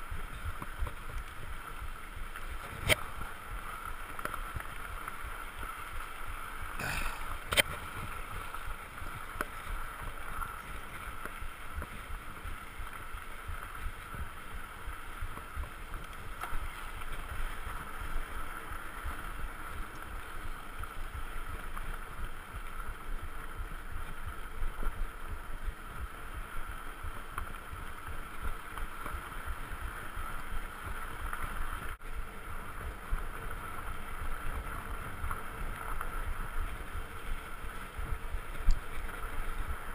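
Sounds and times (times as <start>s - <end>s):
bike tyres rumbling and rattling: 0.0s - 39.9s.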